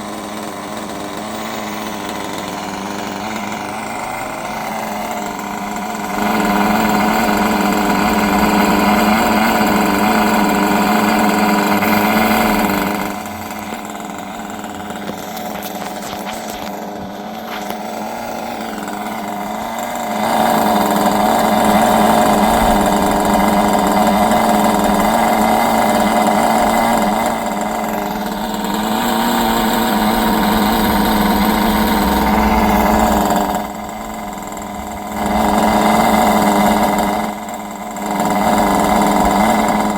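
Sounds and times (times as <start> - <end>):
small model engine running: 0.0 - 39.9.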